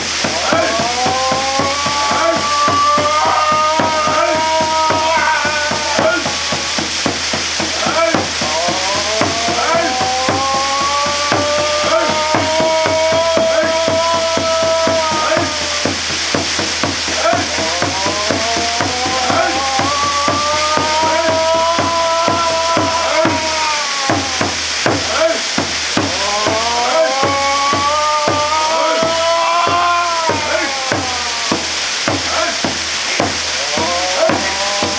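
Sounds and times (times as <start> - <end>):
held chanting tone: 0.0 - 34.9
quick run of knocks: 0.0 - 34.9
waterfall pouring and splashing: 0.0 - 34.9.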